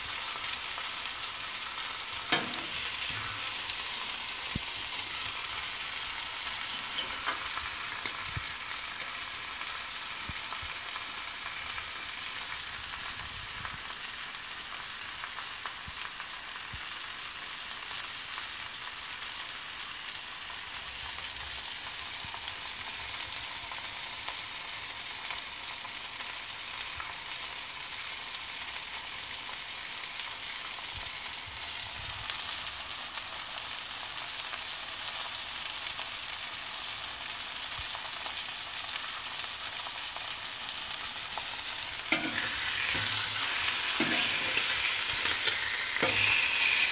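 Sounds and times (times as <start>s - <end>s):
meat sizzling on a griddle: 0.0s - 46.9s.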